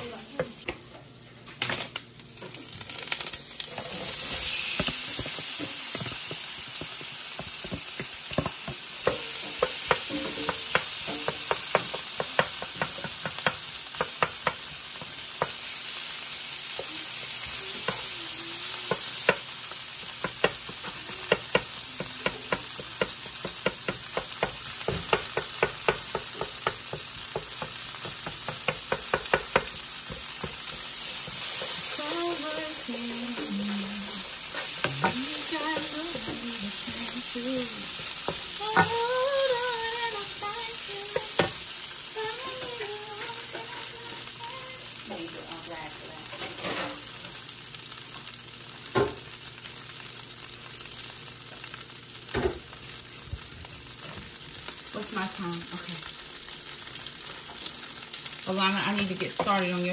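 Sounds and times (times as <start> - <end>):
grains sizzling in a skillet: 0.0 - 1.4, 2.0 - 59.9.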